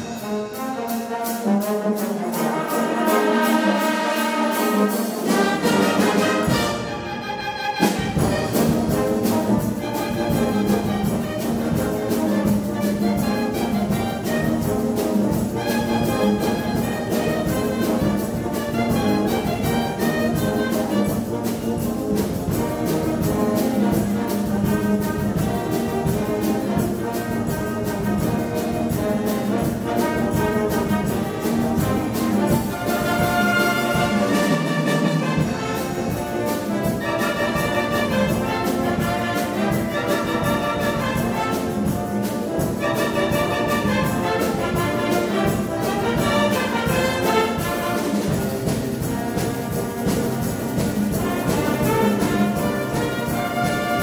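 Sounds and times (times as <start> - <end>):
wind band playing: 0.0 - 54.0.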